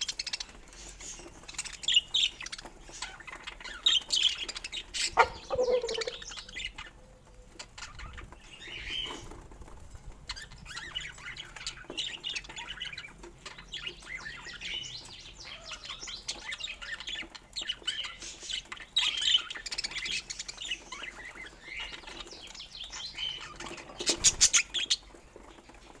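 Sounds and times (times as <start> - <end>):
budgerigars chirping and chattering: 0.0 - 9.4, 10.3 - 26.0.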